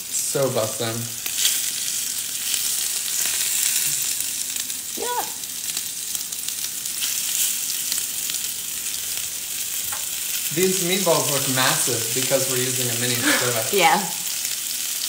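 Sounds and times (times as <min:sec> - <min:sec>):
meatballs sizzling in oil: 0:00.0 - 0:15.0.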